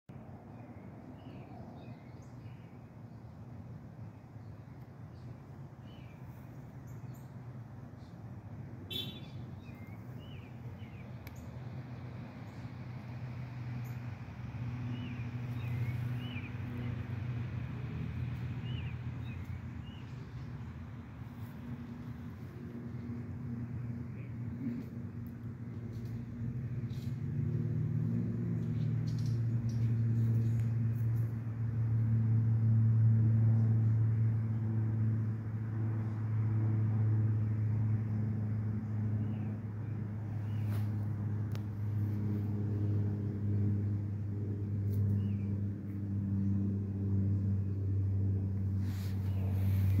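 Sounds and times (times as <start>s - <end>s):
low engine hum: 0.1s - 50.0s.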